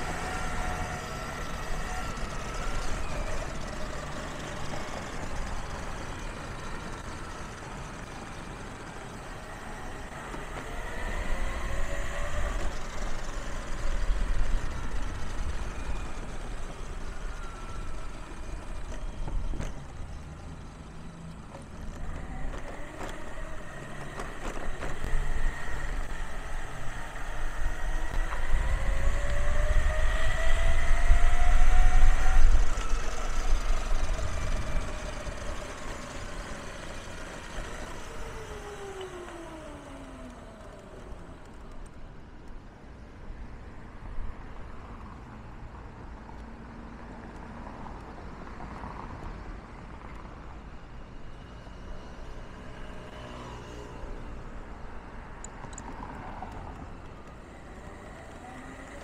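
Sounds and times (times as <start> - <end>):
gear whine: 0.0 - 59.0
wheels rumbling on paving: 0.0 - 59.0.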